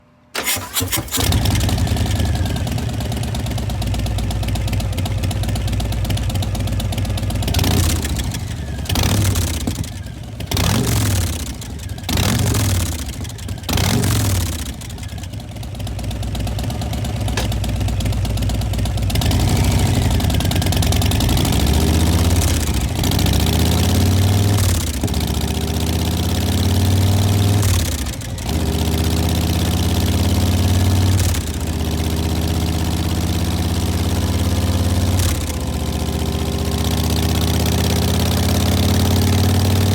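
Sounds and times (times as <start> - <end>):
motorcycle engine idling and revving: 0.4 - 39.9.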